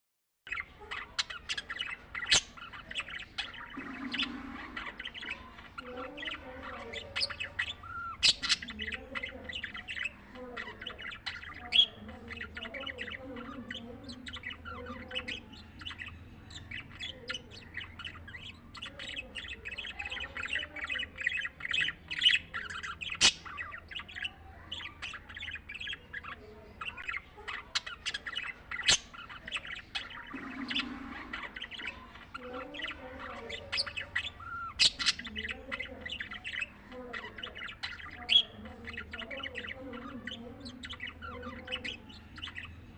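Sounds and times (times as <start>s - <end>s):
budgies chirping: 0.5s - 42.9s.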